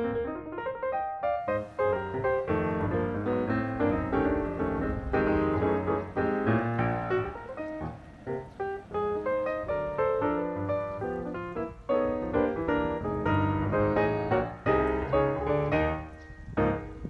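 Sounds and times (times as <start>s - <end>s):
piano playing quick melody: 0.0s - 17.0s.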